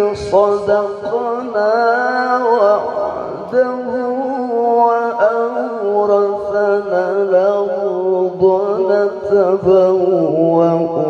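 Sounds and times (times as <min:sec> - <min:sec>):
man reciting melodically through microphone: 0:00.0 - 0:11.0.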